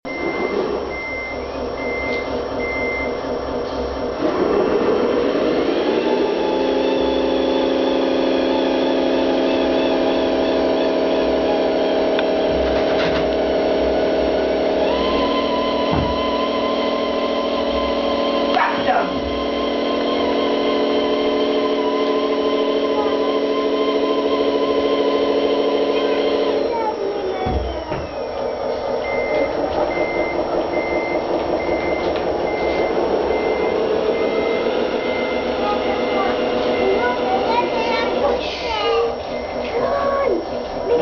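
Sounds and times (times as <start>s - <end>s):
model truck motor whine: 0.1s - 41.0s.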